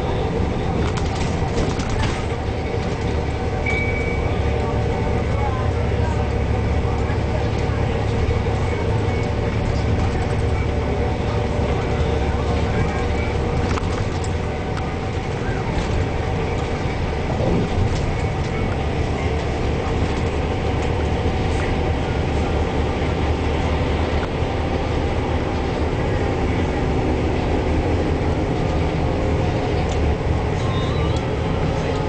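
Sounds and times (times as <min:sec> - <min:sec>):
bus engine drone: 0:00.0 - 0:32.0
road noise: 0:00.0 - 0:32.0.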